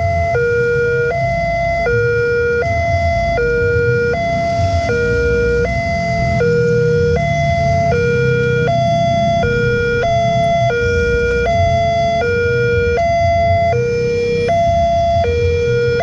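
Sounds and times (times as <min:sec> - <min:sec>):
two-tone level crossing alarm: 0:00.0 - 0:16.0
low rumble: 0:01.2 - 0:16.0.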